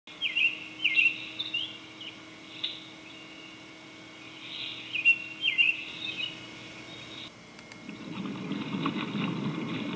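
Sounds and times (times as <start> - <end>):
birds chirping: 0.1 - 9.9.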